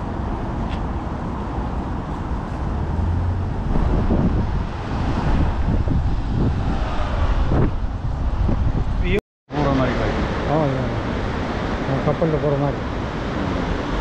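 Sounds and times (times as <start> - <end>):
street traffic: 0.0 - 14.0
wind rumbling on microphone: 0.0 - 14.0.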